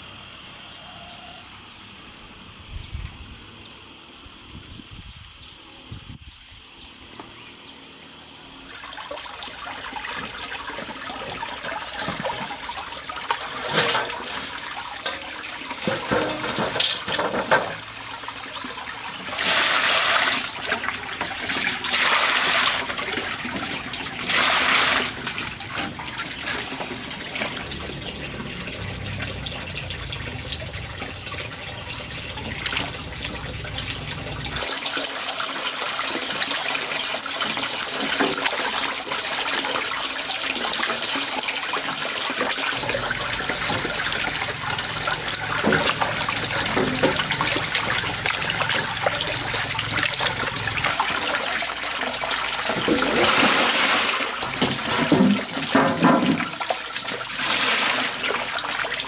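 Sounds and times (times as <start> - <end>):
water gushing: 8.5 - 59.0
water trickling and splashing: 8.5 - 59.0.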